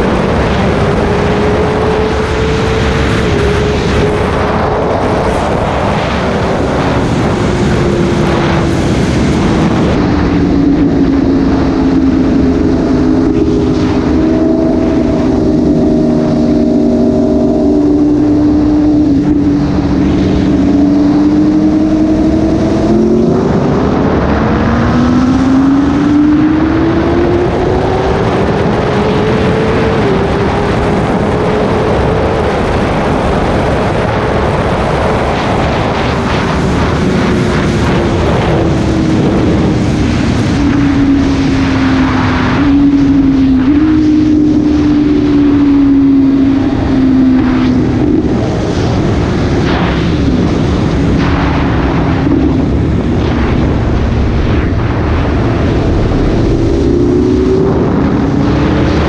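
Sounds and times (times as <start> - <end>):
motorcycle engines accelerating: 0.0 - 59.0
wind rush: 0.0 - 59.0.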